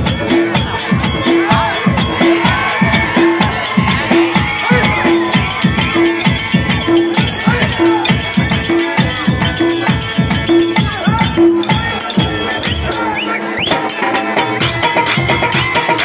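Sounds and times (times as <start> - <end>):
drums beating fast rhythm: 0.0 - 16.0
wavering melody line: 0.0 - 16.0.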